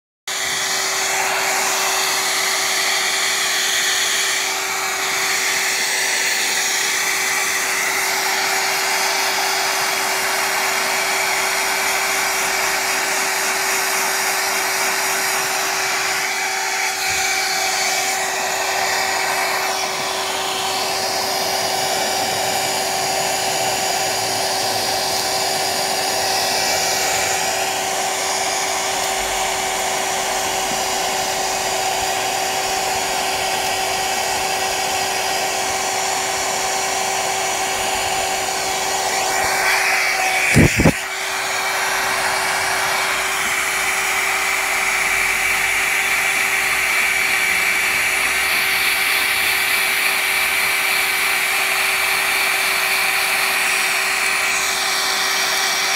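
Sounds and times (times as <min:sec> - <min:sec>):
hair dryer running: 0:00.3 - 0:55.9.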